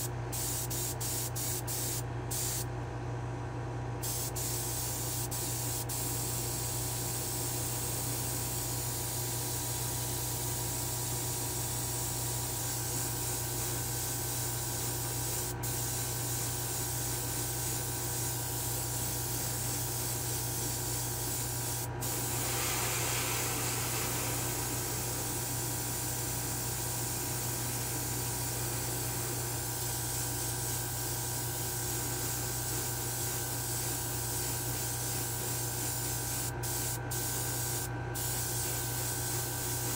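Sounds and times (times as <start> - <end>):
airbrush hissing: 0.0 - 2.6, 4.0 - 10.5, 11.1 - 39.9
spray booth fan hum: 0.0 - 39.9.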